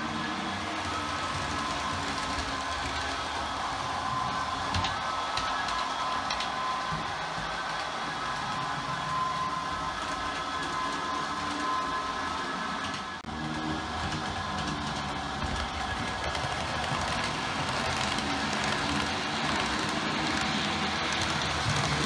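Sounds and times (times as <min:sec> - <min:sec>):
model train motor whirring: 0:00.0 - 0:22.0
wheels rumbling on rails: 0:00.0 - 0:22.0.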